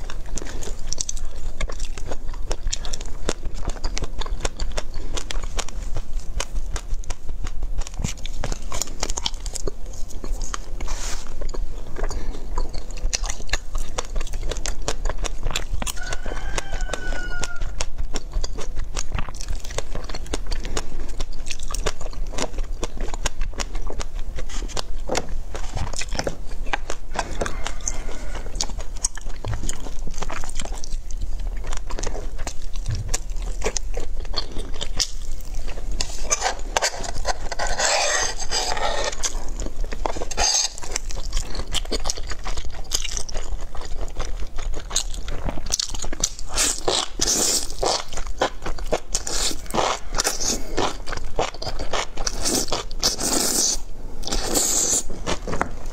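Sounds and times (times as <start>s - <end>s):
close-miked biting and chewing: 0.0s - 55.9s.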